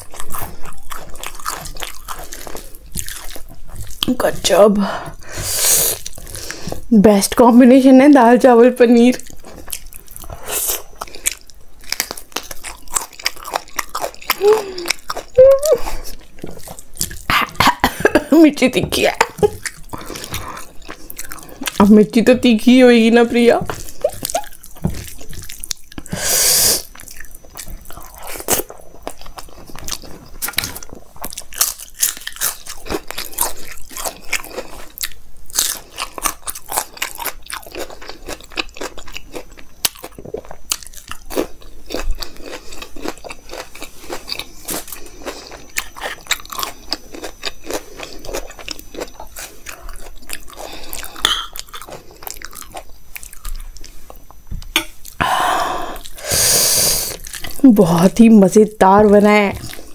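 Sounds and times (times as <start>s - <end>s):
chewing and crunching food: 0.0s - 55.2s, 55.8s - 59.9s.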